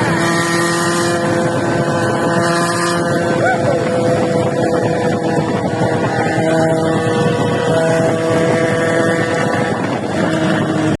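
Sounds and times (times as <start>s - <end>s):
engine running: 0.0s - 11.0s
wind noise on microphone: 0.0s - 11.0s.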